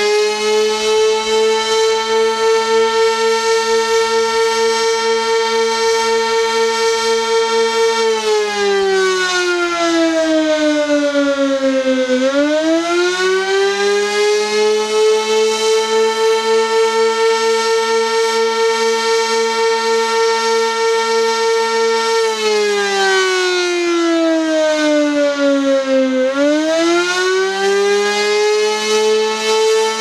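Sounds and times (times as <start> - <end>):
electromechanical warning siren: 0.0 - 30.0.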